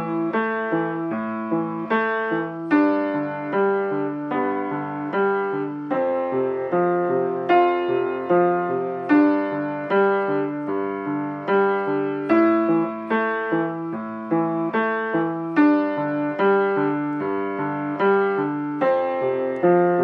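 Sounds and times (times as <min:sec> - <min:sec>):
upright piano playing: 0:00.0 - 0:20.0.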